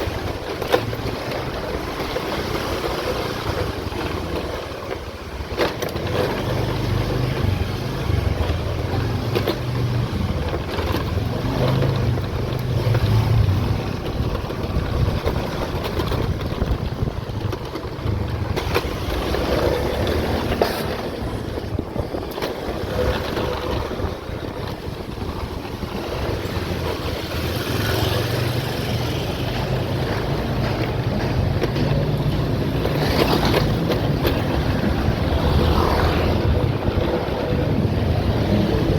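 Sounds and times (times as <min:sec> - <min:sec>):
vehicle engine running: 0:05.4 - 0:38.9
wind buffeting microphone: 0:06.9 - 0:38.9.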